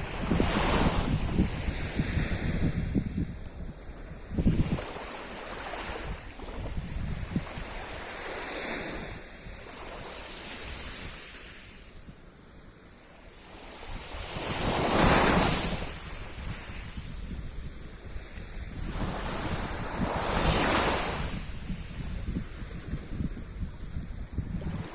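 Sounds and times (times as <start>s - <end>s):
sea surf breaking on shore: 0.0s - 12.0s, 12.8s - 24.9s
wind rumble on microphone: 0.0s - 24.9s.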